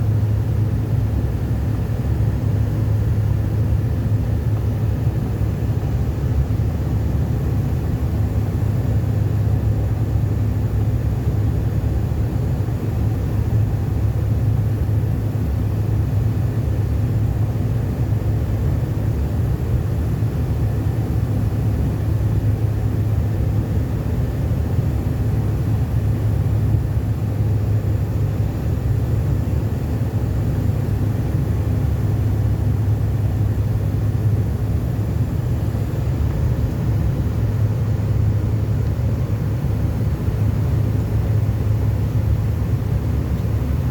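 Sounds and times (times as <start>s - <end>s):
airliner cabin engine rumble: 0.0s - 43.9s.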